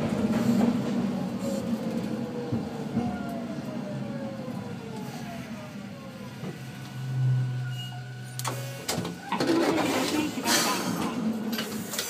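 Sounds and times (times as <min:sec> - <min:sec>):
tram motor whine: 0:00.0 - 0:12.0.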